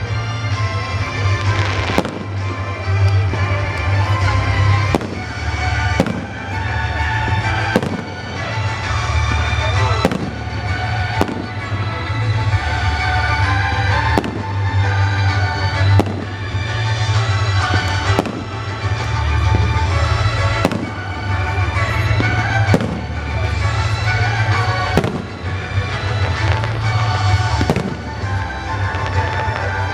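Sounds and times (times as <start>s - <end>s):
fireworks bursting with bangs: 0.0s - 29.9s.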